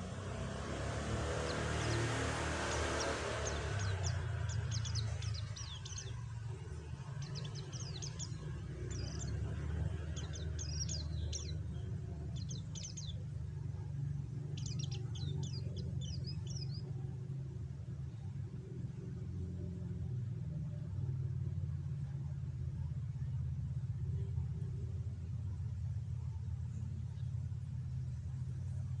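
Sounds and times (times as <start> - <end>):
steady low rumble: 0.0 - 29.0
bird twittering in rapid chirps: 0.1 - 23.4.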